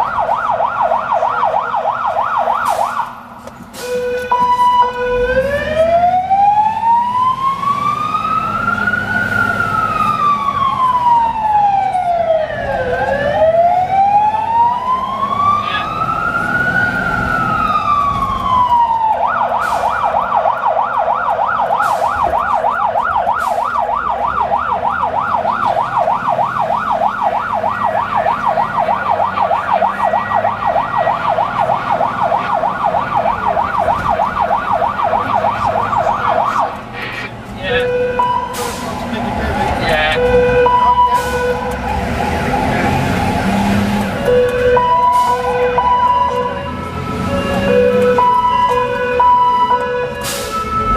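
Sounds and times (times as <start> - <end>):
fire engine siren wailing and yelping: 0.0 - 50.9.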